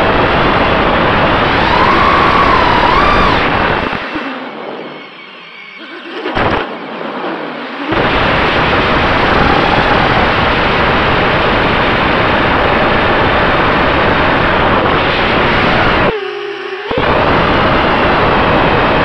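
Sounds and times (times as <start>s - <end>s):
drone wind rush and motor: 0.0s - 5.1s, 6.0s - 19.0s.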